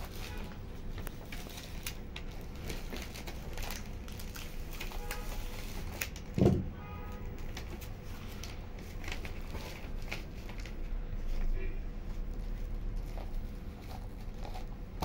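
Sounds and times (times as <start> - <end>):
contact paper taps and rustles: 0.0 - 15.0.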